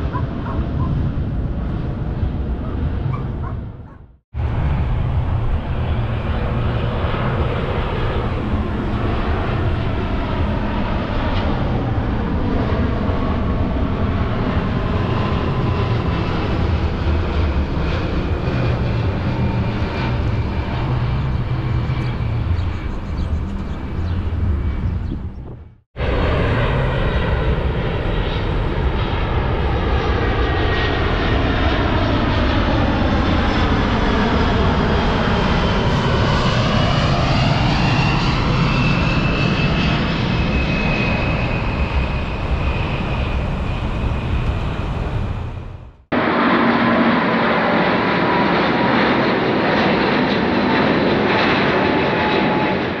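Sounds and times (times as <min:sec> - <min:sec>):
faint steady jet whine: 0:00.0 - 0:53.0
jet aircraft passing overhead: 0:00.0 - 0:53.0.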